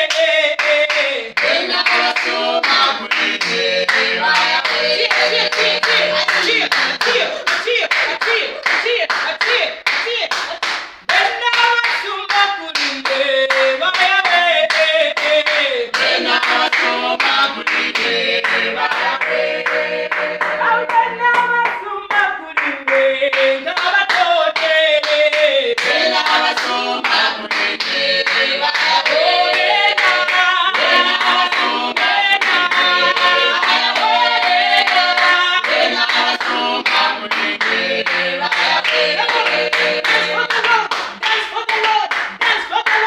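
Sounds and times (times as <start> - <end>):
group singing a worship song: 0.0 - 9.0, 11.2 - 40.7
hands clapping: 0.0 - 43.0.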